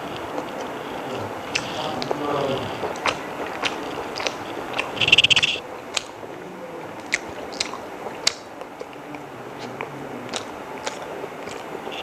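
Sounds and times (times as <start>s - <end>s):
wet mouth clicks: 0.0s - 6.2s, 6.8s - 12.0s
crunchy crackle: 0.0s - 12.0s
person chewing food: 0.0s - 12.0s.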